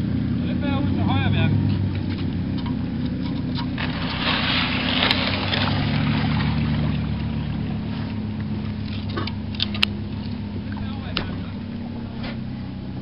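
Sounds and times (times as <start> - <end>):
boat motor running: 0.0 - 13.0
water rushing and splashing: 0.0 - 13.0.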